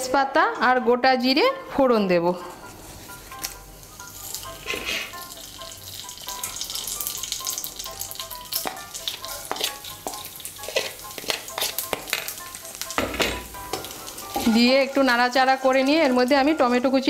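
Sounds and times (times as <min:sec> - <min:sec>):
spices sizzling in hot oil: 0:02.8 - 0:17.0.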